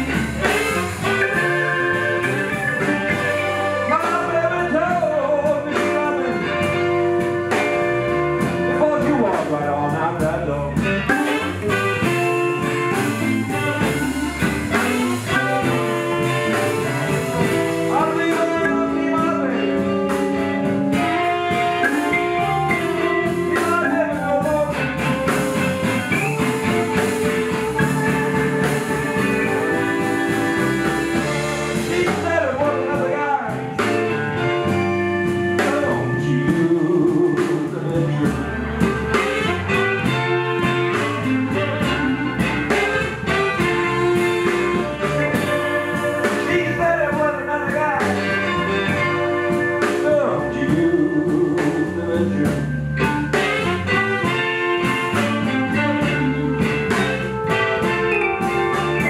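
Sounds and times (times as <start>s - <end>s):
guitar: 0.0s - 59.0s
live blues band playing: 0.0s - 59.0s.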